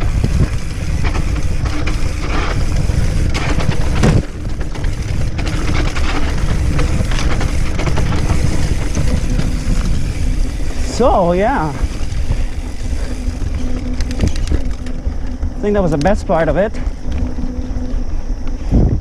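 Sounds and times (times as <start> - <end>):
wind on microphone: 0.0 - 15.8, 16.8 - 19.0
bike knocking and rattling: 0.0 - 19.0
bike tyres rumbling on trail: 0.0 - 19.0.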